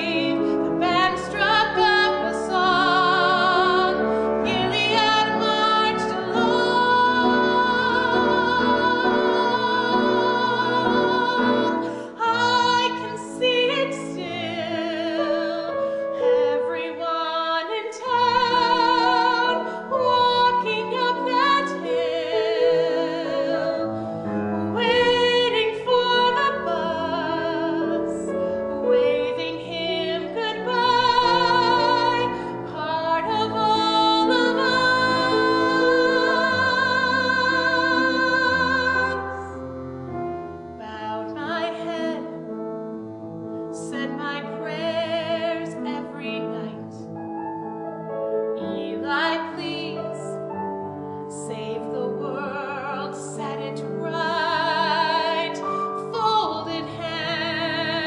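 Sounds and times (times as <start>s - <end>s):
woman singing with vibrato: 0.0s - 39.6s, 40.8s - 42.5s, 43.8s - 47.0s, 48.6s - 50.4s, 51.3s - 58.0s
piano accompaniment: 0.0s - 58.0s.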